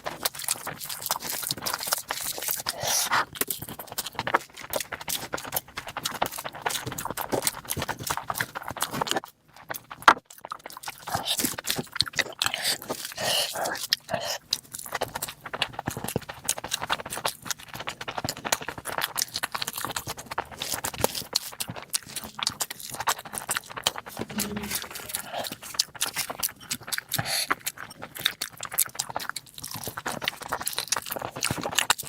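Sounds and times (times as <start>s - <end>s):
chewing and wet lip-smacking: 0.0s - 32.0s.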